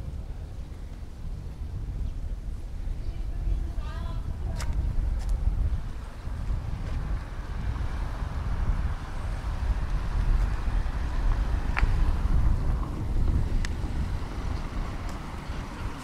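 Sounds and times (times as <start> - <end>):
vehicle running rumble: 0.0 - 16.0.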